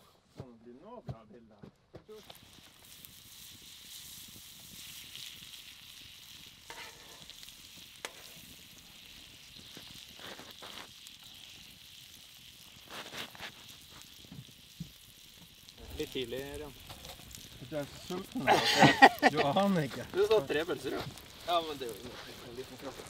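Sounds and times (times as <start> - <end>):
steaks sizzling on griddle: 2.1 - 23.0.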